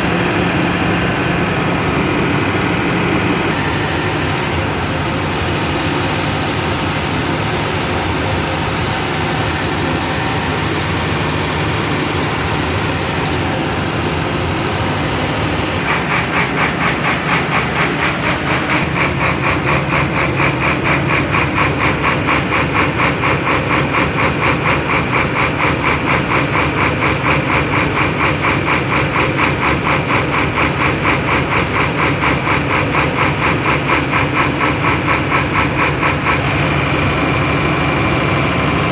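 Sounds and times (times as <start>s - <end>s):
engine running: 0.0s - 38.9s
fast regular tapping clatter: 0.0s - 38.9s.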